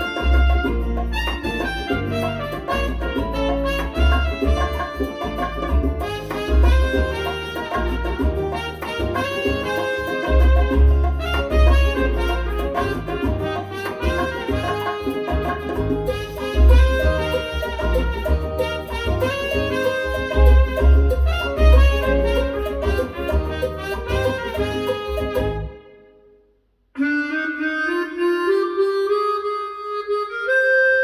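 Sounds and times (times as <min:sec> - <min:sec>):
pulsing bass line: 0:00.0 - 0:25.8
percussion: 0:00.0 - 0:25.9
horn and saxophone music: 0:00.0 - 0:31.0.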